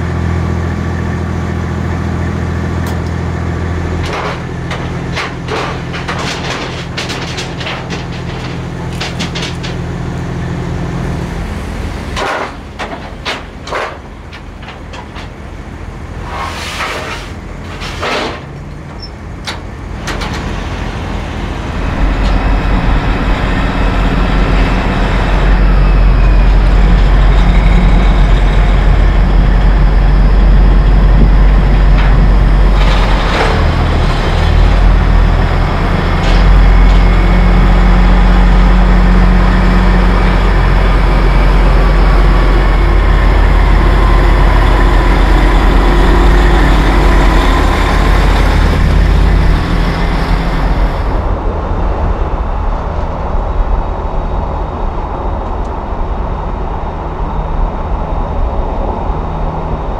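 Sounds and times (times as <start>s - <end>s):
diesel truck engine rumbling: 0.0s - 59.9s.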